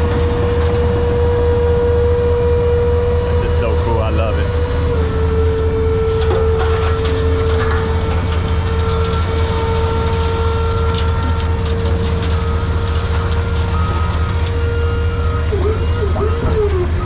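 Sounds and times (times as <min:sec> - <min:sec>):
heavy vehicle engine rumbling: 0:00.0 - 0:17.0
steady engine whine: 0:00.0 - 0:17.0.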